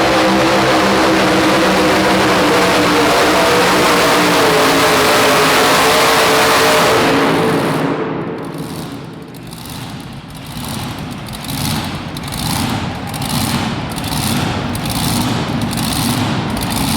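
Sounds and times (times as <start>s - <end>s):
truck engine revving: 0.0s - 16.9s.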